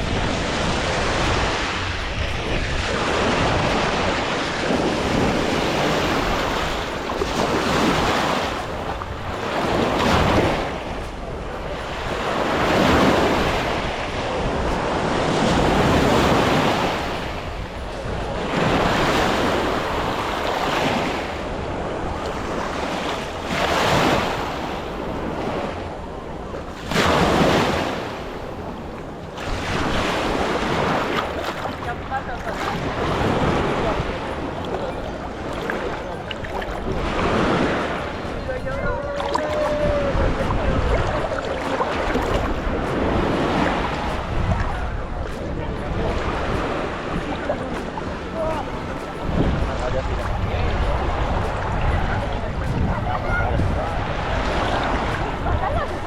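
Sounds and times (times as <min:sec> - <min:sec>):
waves breaking on shore: 0:00.0 - 0:56.0
wind rumbling on microphone: 0:00.0 - 0:56.0.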